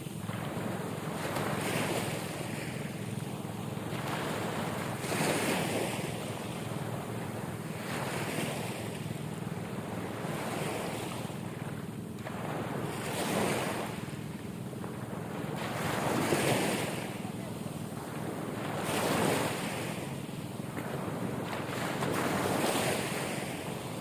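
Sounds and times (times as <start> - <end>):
ocean waves breaking: 0.0 - 24.0
wind rumbling on microphone: 0.0 - 24.0.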